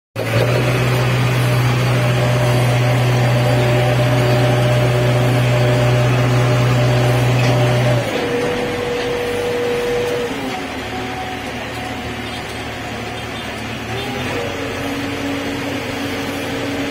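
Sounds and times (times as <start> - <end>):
diesel engine running: 0.2 - 16.9
road noise: 0.2 - 16.9.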